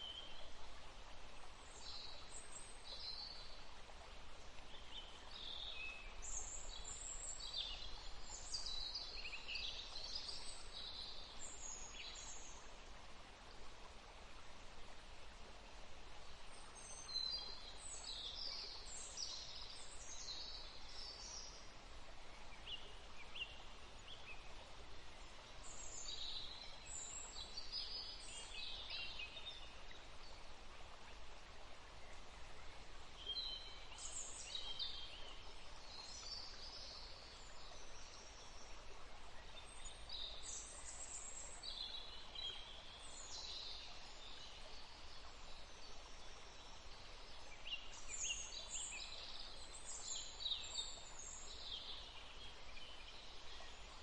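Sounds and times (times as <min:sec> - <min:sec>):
songbirds chirping: 0:00.0 - 0:54.0
steady background hiss: 0:00.0 - 0:54.0.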